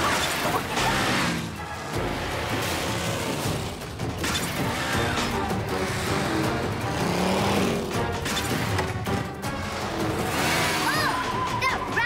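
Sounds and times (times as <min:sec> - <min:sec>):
buggy engines: 0:00.0 - 0:12.0
cartoon action music: 0:00.0 - 0:12.0.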